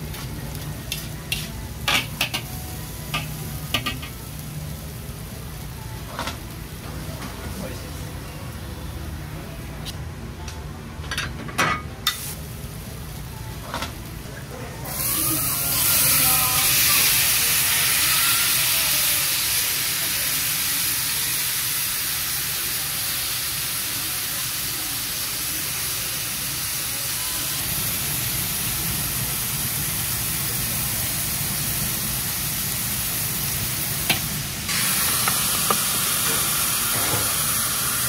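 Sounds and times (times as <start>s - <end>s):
food sizzling in a wok: 0.0s - 6.8s, 12.0s - 13.6s, 14.8s - 38.0s.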